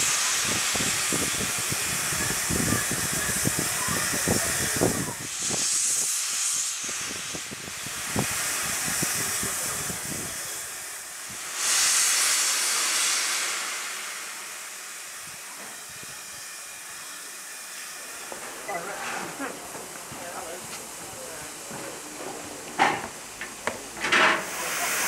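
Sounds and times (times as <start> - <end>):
steam locomotive hissing: 0.0 - 25.0.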